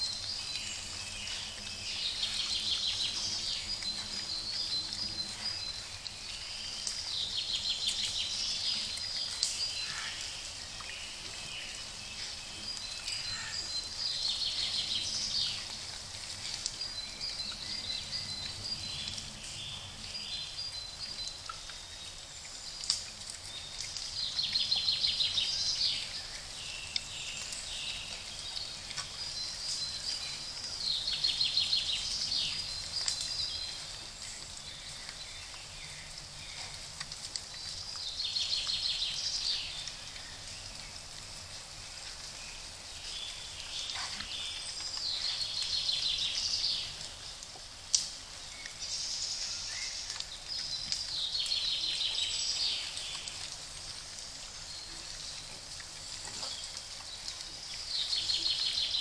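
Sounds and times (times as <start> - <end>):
faint steady hiss: 0.0 - 59.0
songbird singing: 0.0 - 59.0.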